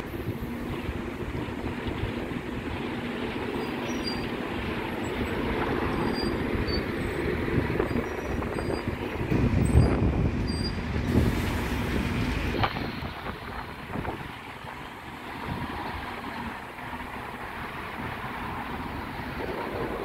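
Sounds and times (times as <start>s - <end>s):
bus diesel engine rumble: 0.0s - 20.0s
bus tyres on road: 0.0s - 20.0s.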